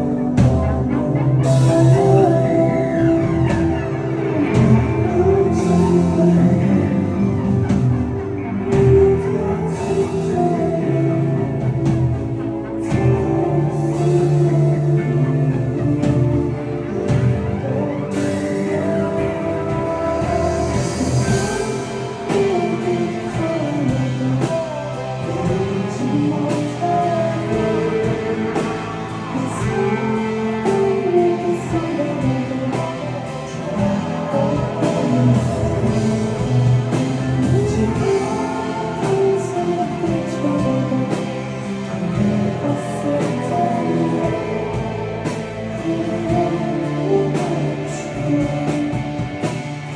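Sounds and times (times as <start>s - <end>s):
person singing lead vocal: 0.0s - 49.9s
rock band playing live: 0.0s - 49.9s.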